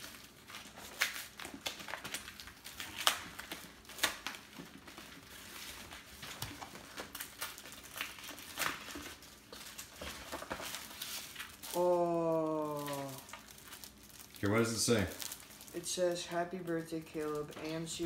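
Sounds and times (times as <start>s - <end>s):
envelope crinkling and tearing: 0.0s - 18.0s.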